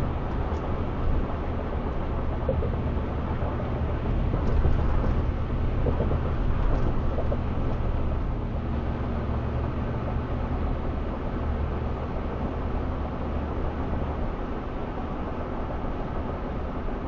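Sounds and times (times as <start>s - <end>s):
road noise inside car cab: 0.0s - 17.0s.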